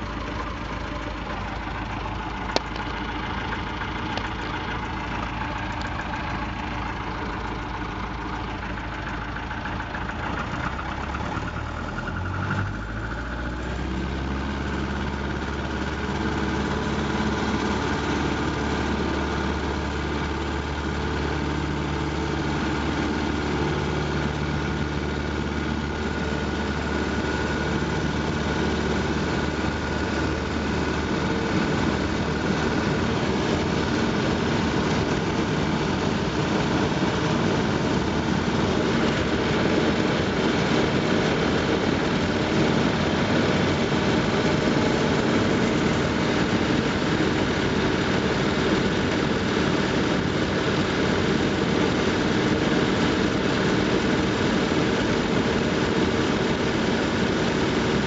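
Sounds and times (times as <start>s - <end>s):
propeller plane engine: 0.0s - 58.0s.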